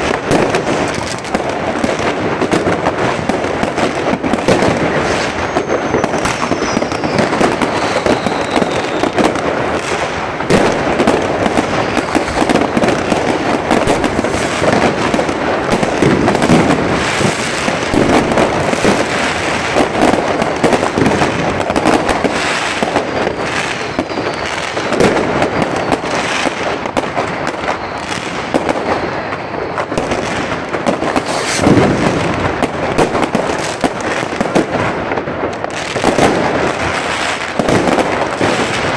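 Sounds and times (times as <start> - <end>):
fireworks and firecrackers banging: 0.0 - 38.9
whistling rockets: 0.0 - 38.9.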